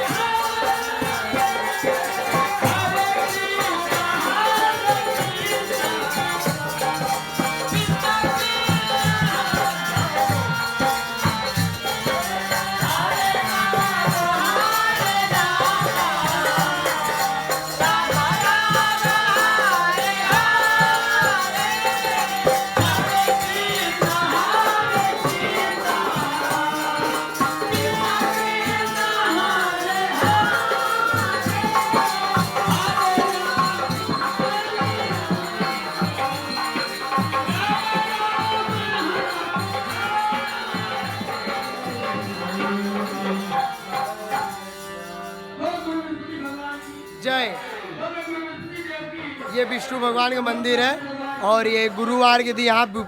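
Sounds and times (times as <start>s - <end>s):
jingling hand percussion: 0.0s - 53.0s
voices singing a chant: 0.0s - 53.0s.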